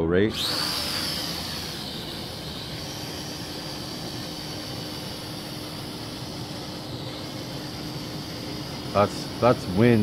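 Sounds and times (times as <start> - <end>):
toy quadcopter whining: 0.3 - 10.0.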